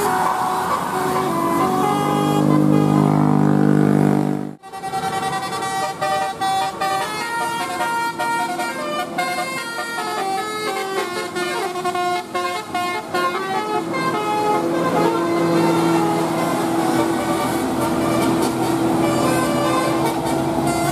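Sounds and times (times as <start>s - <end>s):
multi-tone air horn melody: 0.0s - 20.9s.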